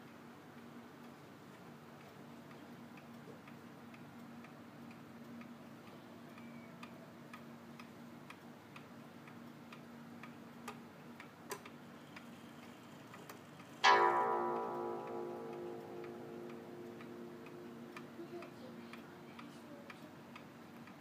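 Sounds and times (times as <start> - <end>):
wall clock ticking: 0.0 - 21.0
steady low hum: 0.1 - 21.0.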